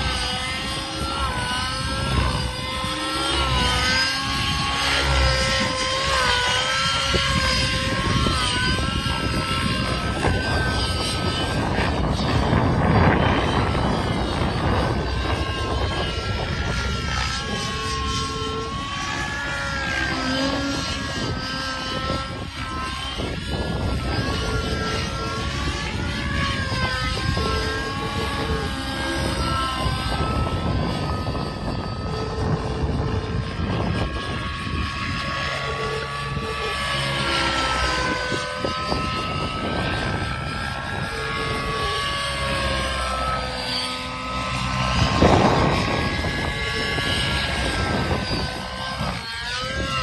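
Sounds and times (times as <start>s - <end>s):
model helicopter engine and rotor whine: 0.0s - 50.0s.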